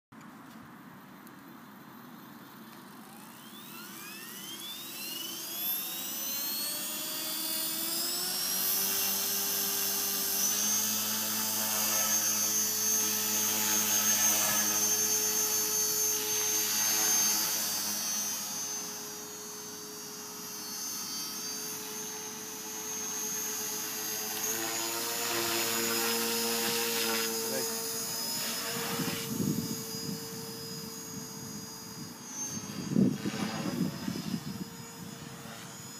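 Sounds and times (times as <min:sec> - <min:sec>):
rc helicopter motor and rotor whine: 0:01.0 - 0:35.9.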